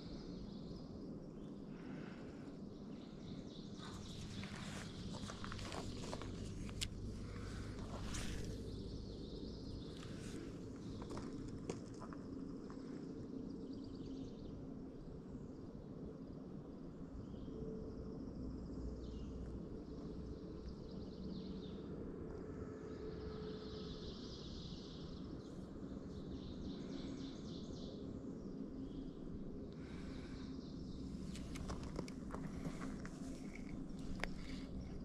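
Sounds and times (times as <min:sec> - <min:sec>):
small birds singing: 0:00.0 - 0:21.9, 0:23.3 - 0:35.0.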